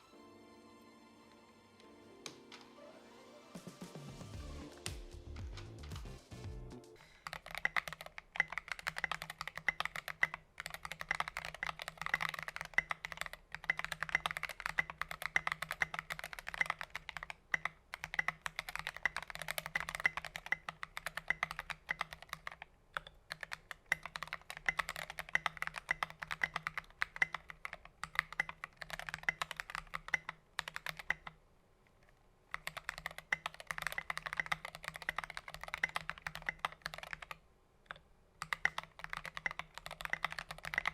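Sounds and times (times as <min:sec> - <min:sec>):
fast mechanical keyboard typing: 0:07.0 - 0:31.4, 0:32.5 - 0:40.9.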